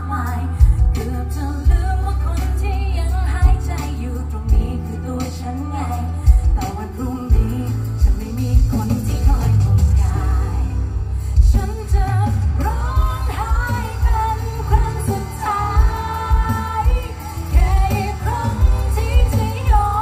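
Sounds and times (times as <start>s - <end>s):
amplified band with bass and drums: 0.0s - 20.0s
woman singing into a microphone: 0.0s - 20.0s.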